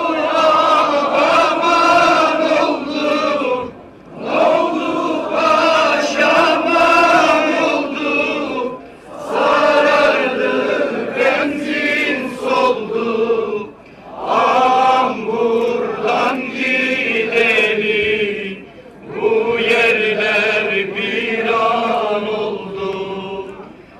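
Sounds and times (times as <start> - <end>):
crowd chanting in unison: 0.0 - 23.7.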